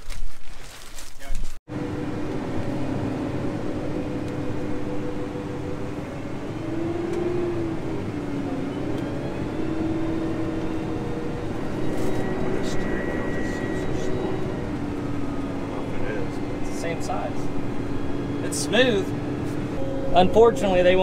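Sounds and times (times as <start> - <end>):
tractor diesel engine running: 1.6 - 21.0.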